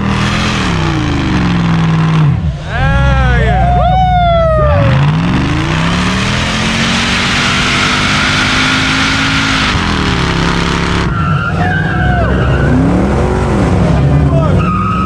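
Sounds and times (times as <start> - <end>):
tyres screeching: 0.0 - 13.5
car engine revving: 0.0 - 15.0.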